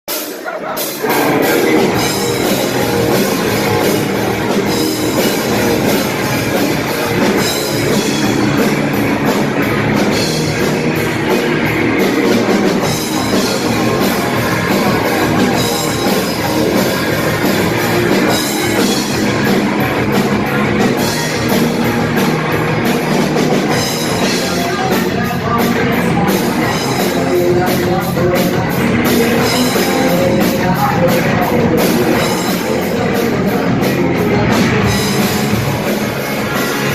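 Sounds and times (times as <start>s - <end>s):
drum kit beat: 0.1s - 36.9s
rock band playing heavy rock: 0.1s - 36.9s.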